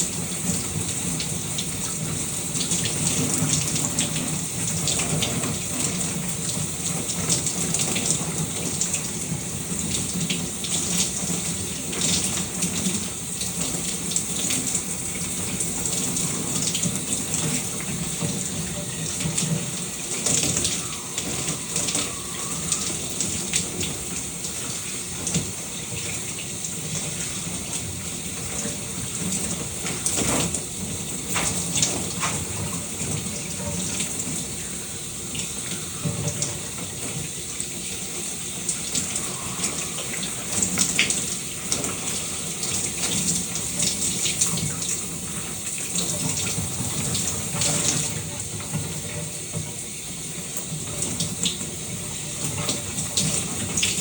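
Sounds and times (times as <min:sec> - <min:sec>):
shower spray hissing: 0:00.0 - 0:54.0.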